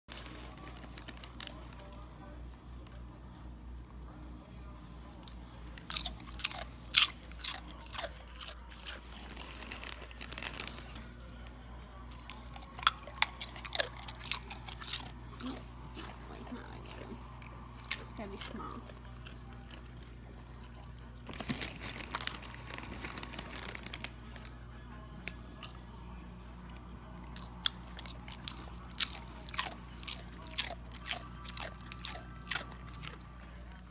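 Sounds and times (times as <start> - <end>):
dog crunching chips: 0.1 - 3.1, 5.2 - 24.6, 25.2 - 33.9.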